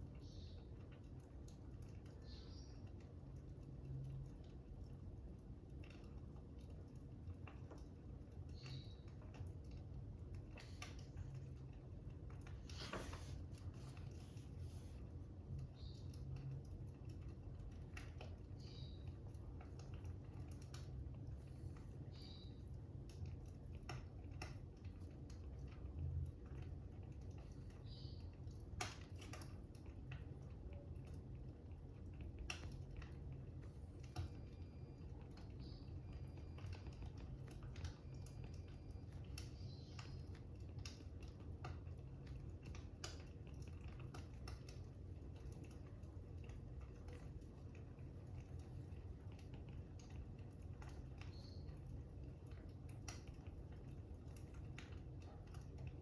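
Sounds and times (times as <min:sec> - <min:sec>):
fire crackling: 0:03.0 - 0:56.0.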